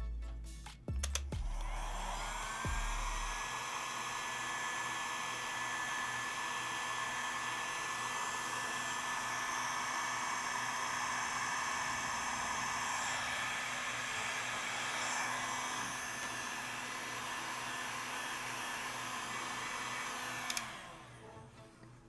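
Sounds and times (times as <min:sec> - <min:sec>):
heat gun blowing air: 0:01.4 - 0:21.2.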